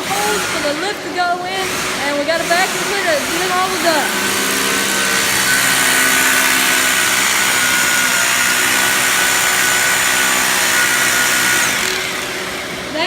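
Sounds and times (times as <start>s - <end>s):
hammer drill boring into concrete: 0.0s - 13.0s
vacuum cleaner running: 0.0s - 13.0s.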